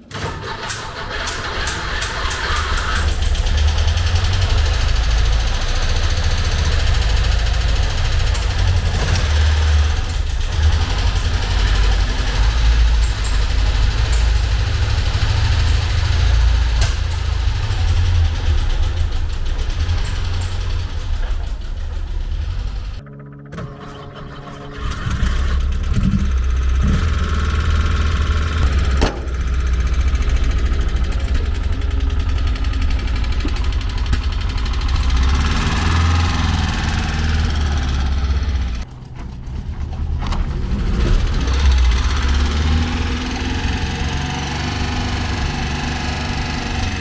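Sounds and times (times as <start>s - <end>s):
car engine idling: 0.6s - 23.0s, 24.8s - 47.0s.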